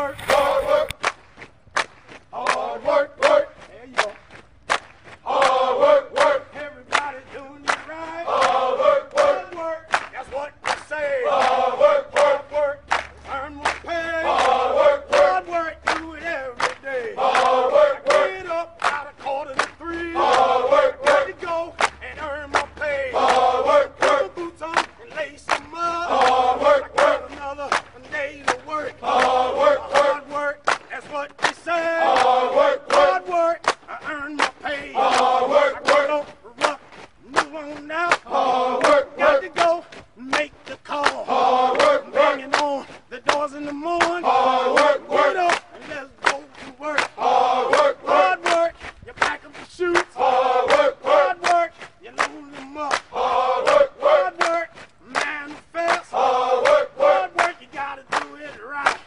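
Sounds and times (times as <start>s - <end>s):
group of voices chanting: 0.0s - 1.0s, 2.3s - 3.7s, 5.2s - 59.0s.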